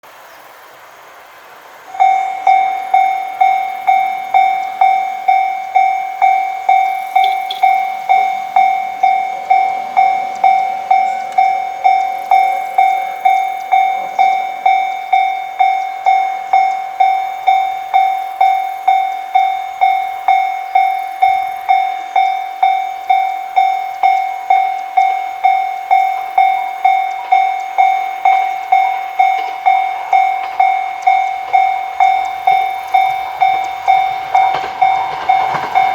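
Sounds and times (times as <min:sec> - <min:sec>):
railroad crossing bell ringing: 0:01.8 - 0:35.9.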